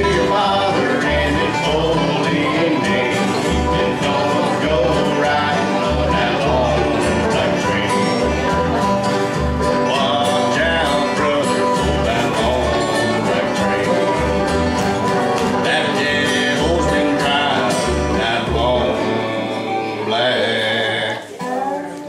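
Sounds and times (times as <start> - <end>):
upright bass notes: 0.0 - 21.2
acoustic guitar strumming: 0.0 - 22.0
dobro: 0.0 - 22.0
mandolin: 0.0 - 22.0.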